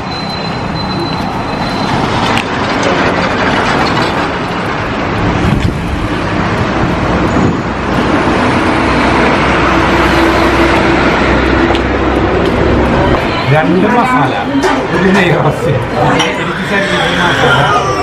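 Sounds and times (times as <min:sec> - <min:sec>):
engine drone: 0:00.0 - 0:15.0
road traffic rushing: 0:00.0 - 0:18.0.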